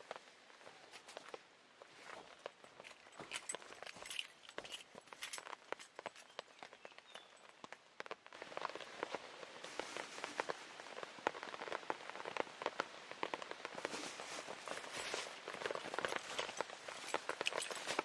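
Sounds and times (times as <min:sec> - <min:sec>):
rain patter: 0:00.0 - 0:18.0.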